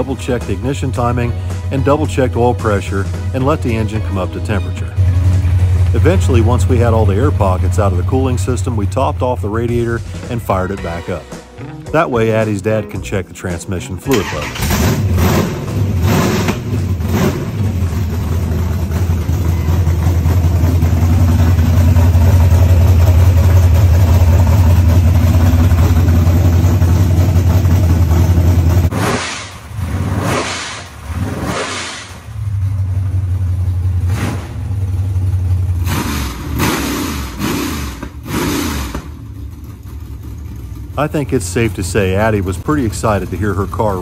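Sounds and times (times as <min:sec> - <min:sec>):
car engine idling loudly: 0:00.0 - 0:11.3, 0:14.1 - 0:44.0
engine revving: 0:00.0 - 0:12.9, 0:13.7 - 0:44.0.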